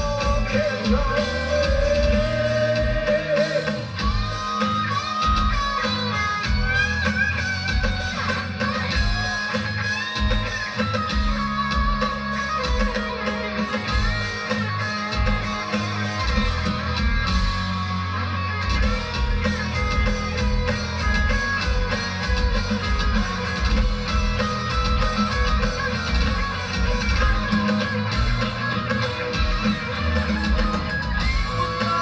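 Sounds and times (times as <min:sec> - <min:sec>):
bass guitar: 0:00.0 - 0:32.0
drums: 0:00.0 - 0:32.0
electric guitar lead: 0:00.0 - 0:32.0.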